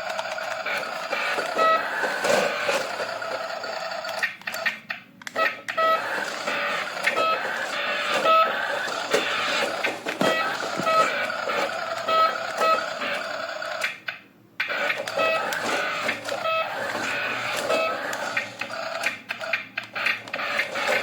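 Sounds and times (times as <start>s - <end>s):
mechanical whirring: 0.0s - 21.0s.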